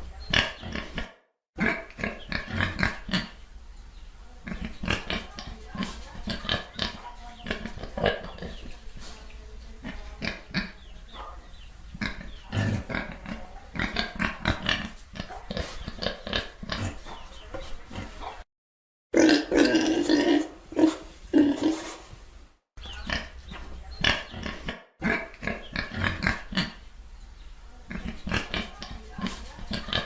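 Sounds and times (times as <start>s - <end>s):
pigs grunting and oinking: 0.2s - 3.4s, 4.4s - 8.8s, 9.8s - 10.8s, 11.9s - 18.4s, 19.2s - 22.0s, 22.8s - 26.8s, 27.9s - 30.0s.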